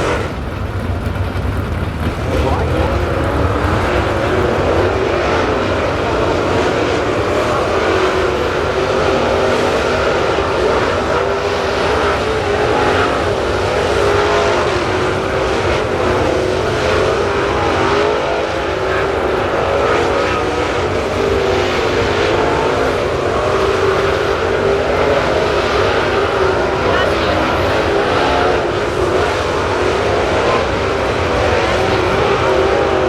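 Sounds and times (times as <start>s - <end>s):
race car engines running hard: 0.0s - 33.0s.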